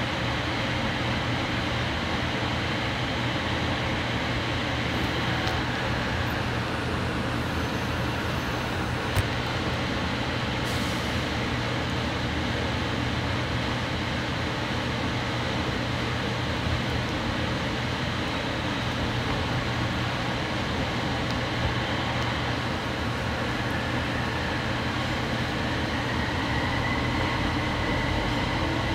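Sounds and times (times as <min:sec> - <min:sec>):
train wheel and track noise: 0:00.0 - 0:28.9.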